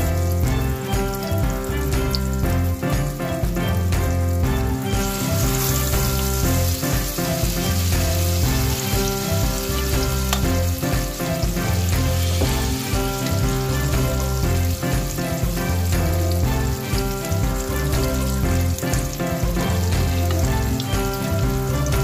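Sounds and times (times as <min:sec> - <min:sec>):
background music: 0:00.0 - 0:22.0
eggplant sizzling in oil: 0:00.0 - 0:22.0.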